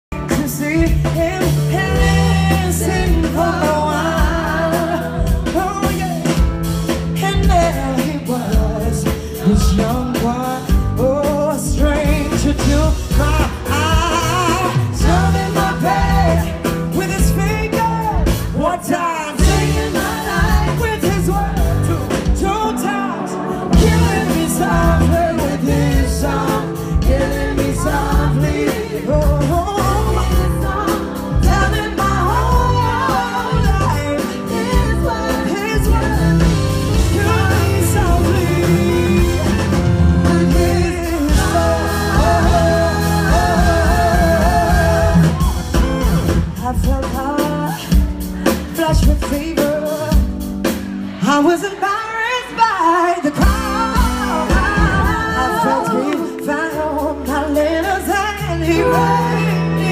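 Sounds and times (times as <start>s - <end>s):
live band with singer: 0.0s - 59.9s.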